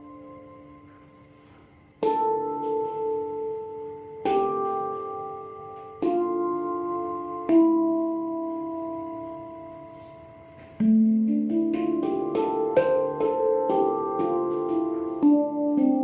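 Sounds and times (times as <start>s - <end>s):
handpan notes ringing: 0.0s - 16.0s.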